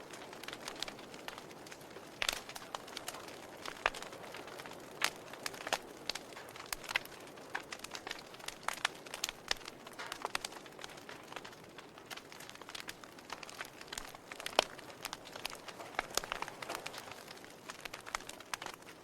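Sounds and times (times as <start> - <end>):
soft fire hiss: 0.0 - 19.0
wood fire crackling and popping: 0.0 - 19.0.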